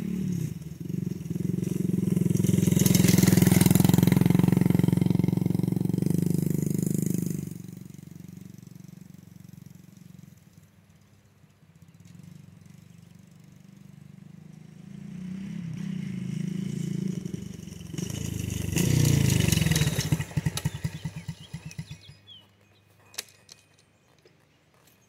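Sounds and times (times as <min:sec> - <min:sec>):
dirt bike engine: 0:00.0 - 0:25.0.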